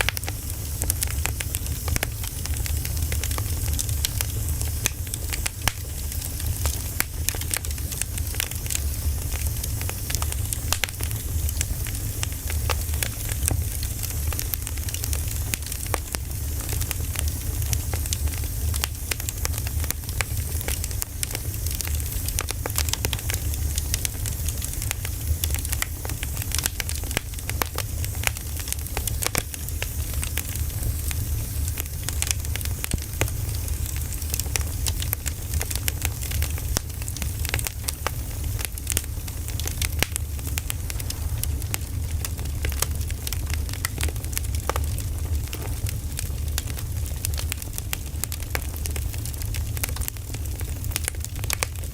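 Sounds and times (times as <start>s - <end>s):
low rumble and hiss: 0.0s - 51.9s
wood fire crackling and popping: 0.0s - 51.9s.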